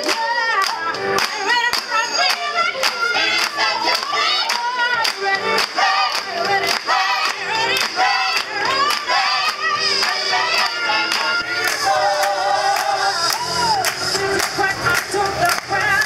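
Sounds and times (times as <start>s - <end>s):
rhythmic handclapping: 0.0s - 16.0s
woman singing into microphone: 0.0s - 16.0s
choir singing: 1.4s - 16.0s.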